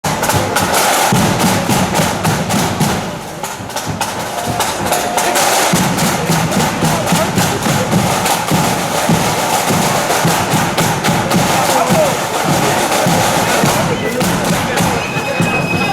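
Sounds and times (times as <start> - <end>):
bass drum: 0.0 - 15.9
marching flute band: 0.0 - 15.9
snare drums beating: 0.0 - 15.9.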